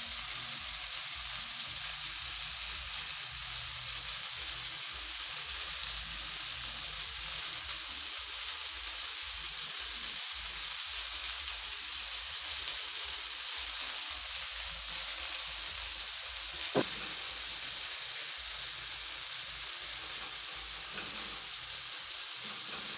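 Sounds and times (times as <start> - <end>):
fish sizzling in a pan: 0.0 - 22.9.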